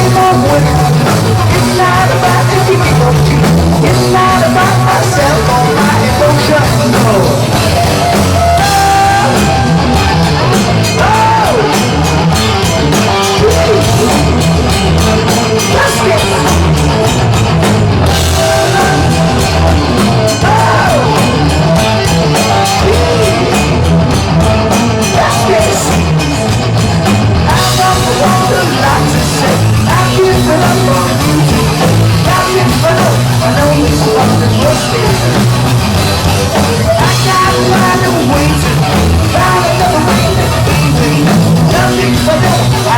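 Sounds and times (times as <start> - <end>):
heavy rock band playing live: 0.0 - 42.9
sung lead vocal: 0.0 - 42.9.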